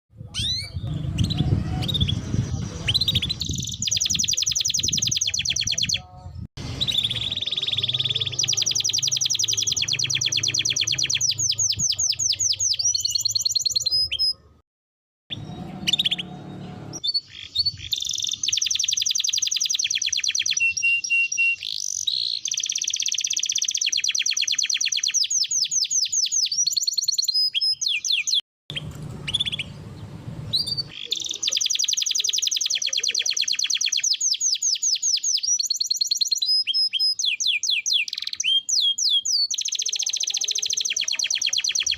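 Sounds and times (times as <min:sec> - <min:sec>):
canary singing trills: 0:00.2 - 0:14.6, 0:15.3 - 0:41.9.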